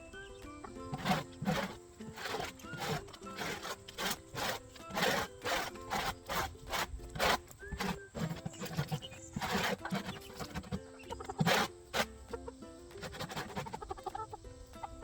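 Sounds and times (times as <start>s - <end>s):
background music: 0.0s - 15.0s
rhythmic scraping strokes: 0.0s - 15.0s.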